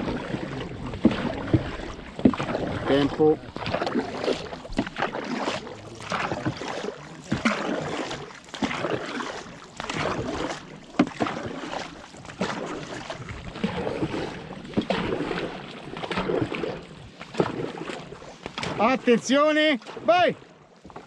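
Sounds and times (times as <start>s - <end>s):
paddles splashing water: 0.0s - 21.0s
sharp paddle splashes: 0.0s - 21.0s.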